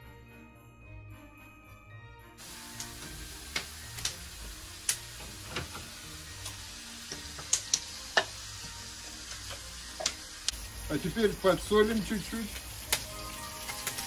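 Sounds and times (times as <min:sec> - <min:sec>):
oil popping and crackling: 0:02.4 - 0:14.0
pork sizzling in a wok: 0:02.4 - 0:14.0.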